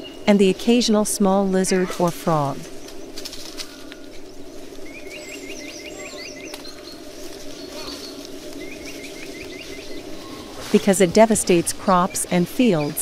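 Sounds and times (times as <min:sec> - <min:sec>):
steady low background hum: 0:00.0 - 0:13.0.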